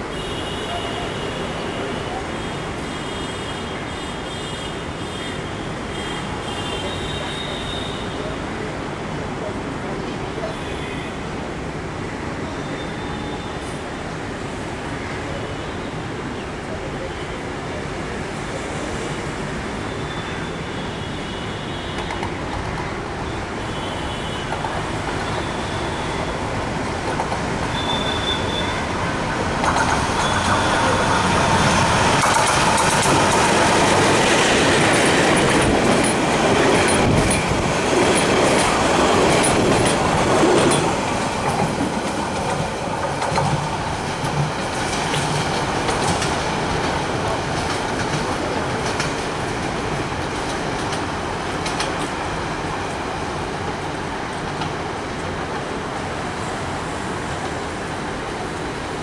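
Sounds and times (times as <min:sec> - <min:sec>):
train wheels on rails: 0:00.0 - 0:59.0
diesel locomotive engine: 0:04.8 - 0:59.0.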